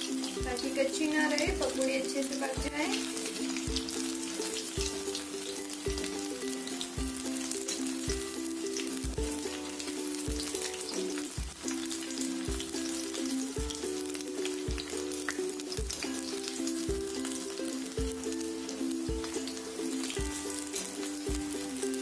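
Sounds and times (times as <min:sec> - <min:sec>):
background music with beat: 0:00.0 - 0:22.0
food deep-frying in hot oil: 0:00.0 - 0:22.0.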